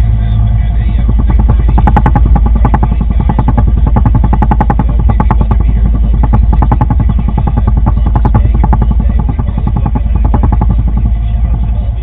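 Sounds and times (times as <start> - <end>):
engine running with deep rumble: 0.0 - 12.0.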